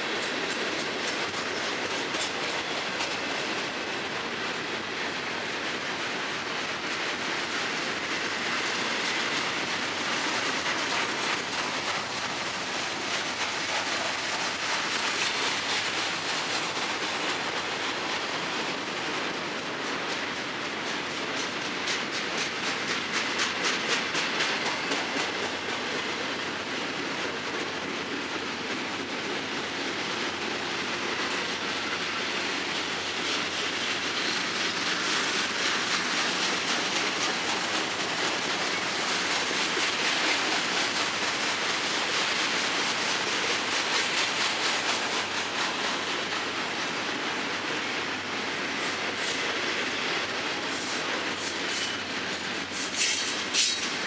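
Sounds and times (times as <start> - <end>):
freight train wheels rumbling: 0.0 - 54.0
wheels clacking over rail joints: 0.0 - 54.0.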